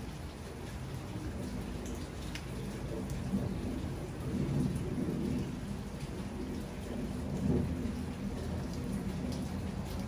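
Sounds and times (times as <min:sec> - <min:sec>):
rain drop ticks: 0:00.0 - 0:10.0
steady rain: 0:00.0 - 0:10.0.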